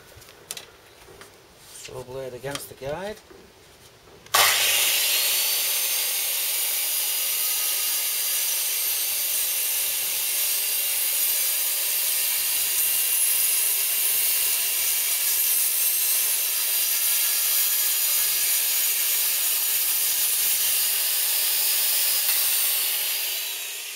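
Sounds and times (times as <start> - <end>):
electric circular saw cutting wood: 4.3 - 23.9.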